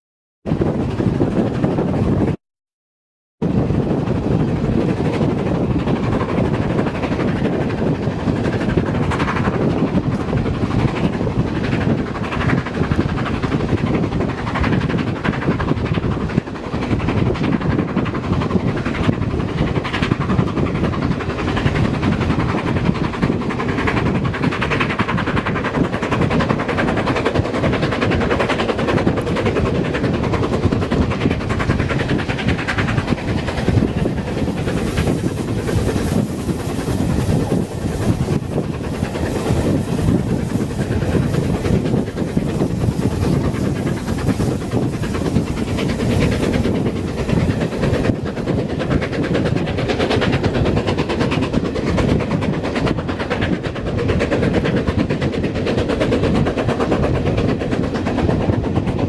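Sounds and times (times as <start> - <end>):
wind: 0.4 - 2.4, 3.4 - 59.0
steam locomotive exhaust beats: 3.4 - 59.0
train wheels on rails: 3.5 - 59.0.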